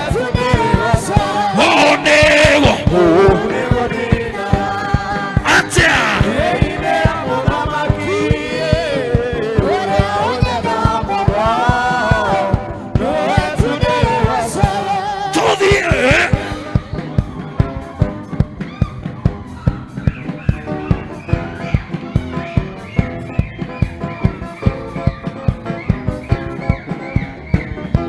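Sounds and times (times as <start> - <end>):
choir-like singing over a beat: 0.0 - 28.0.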